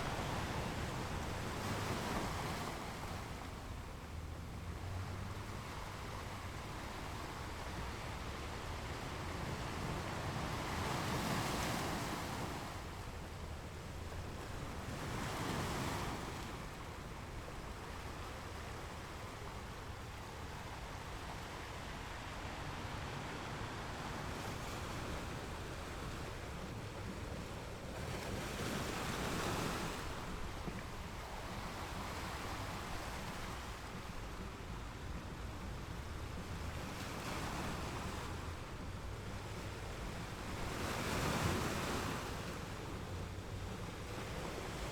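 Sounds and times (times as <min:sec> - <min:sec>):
ocean waves breaking on beach: 0:00.0 - 0:44.9.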